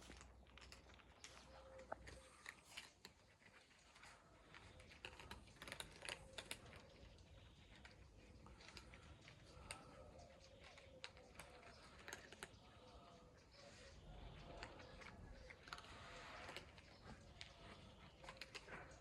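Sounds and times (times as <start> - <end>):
cats crunching food: 0.0 - 19.0.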